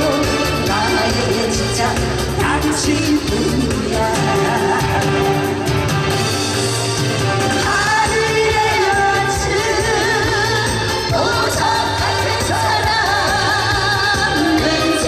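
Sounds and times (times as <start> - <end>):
man and woman singing duet: 0.0 - 5.5, 7.6 - 15.0
backing music: 0.0 - 15.0.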